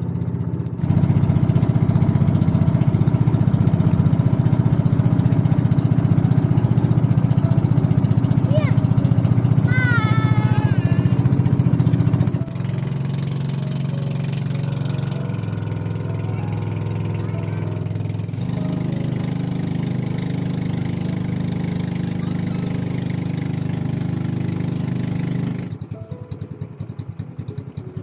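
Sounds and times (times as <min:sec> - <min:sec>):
small boat engine running: 0:00.0 - 0:28.0.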